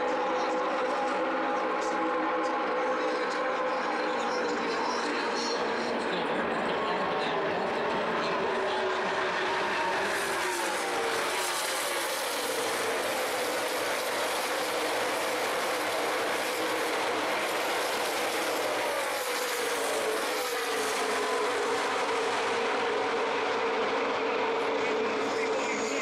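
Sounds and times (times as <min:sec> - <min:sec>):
race cars passing at speed: 0:00.0 - 0:26.0.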